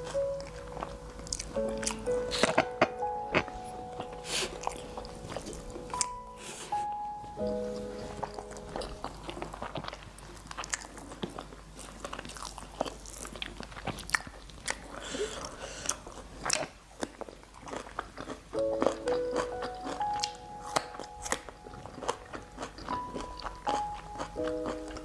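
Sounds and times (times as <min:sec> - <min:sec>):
wet chewing and crunching: 0:00.0 - 0:06.3, 0:07.4 - 0:25.0.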